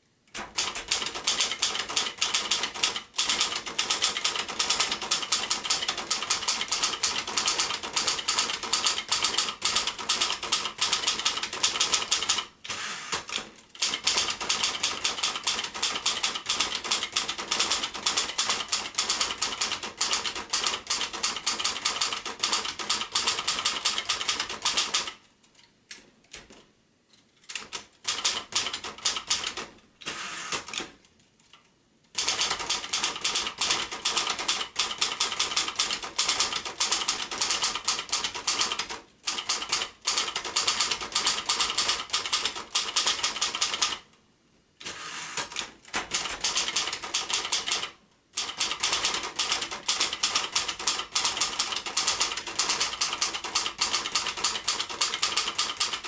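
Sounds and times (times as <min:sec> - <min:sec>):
manual typewriter clatter: 0:00.3 - 0:25.2, 0:27.4 - 0:31.0, 0:32.1 - 0:44.1, 0:45.4 - 0:56.0.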